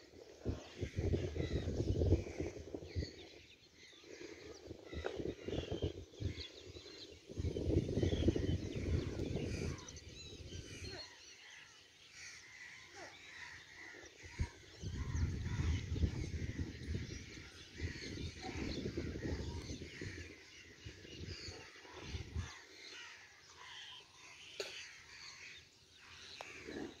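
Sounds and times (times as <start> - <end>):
wind buffeting microphone: 0.0 - 11.8, 12.5 - 23.6
birds calling and chirping: 0.0 - 27.0.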